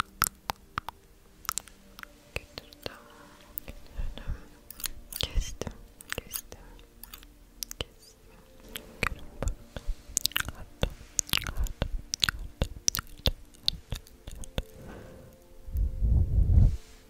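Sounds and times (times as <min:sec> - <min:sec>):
wet crackly snaps: 0:00.0 - 0:03.9, 0:04.7 - 0:14.8
crisp clicks: 0:00.0 - 0:15.6.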